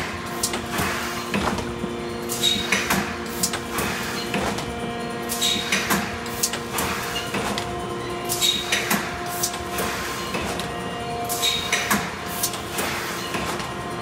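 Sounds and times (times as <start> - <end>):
machine clacks: 0.0 - 14.0
machine hum: 0.0 - 14.0.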